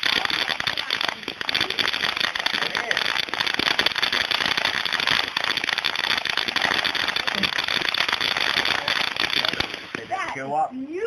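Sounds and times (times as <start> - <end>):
firework fizzing and crackling: 0.0 - 11.0.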